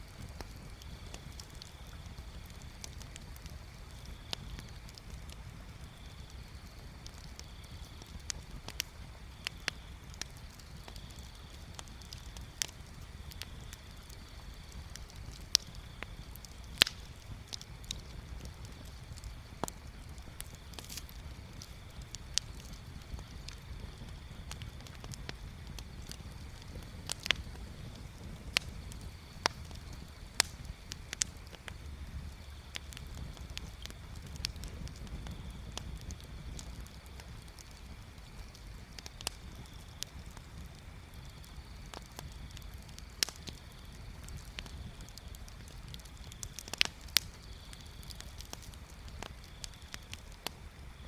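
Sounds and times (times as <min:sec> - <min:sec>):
bonfire crackling and popping: 0:00.0 - 0:51.0
low fire rumble: 0:00.0 - 0:51.0.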